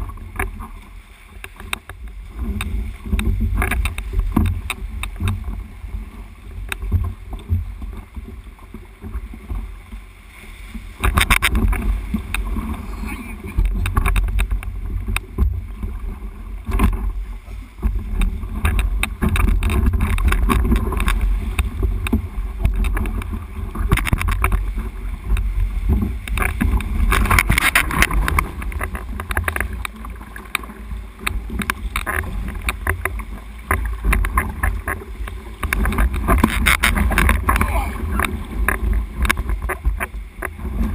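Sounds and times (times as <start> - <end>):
sea swell sloshing and splashing: 0.0 - 40.9.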